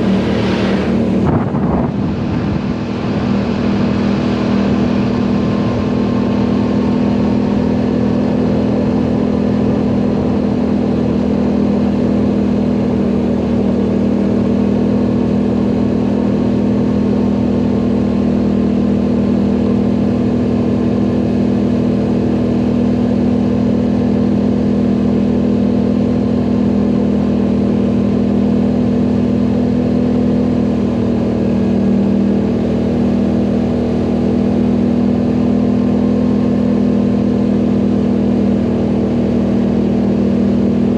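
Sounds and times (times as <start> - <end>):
atv engine droning: 0.0 - 40.9.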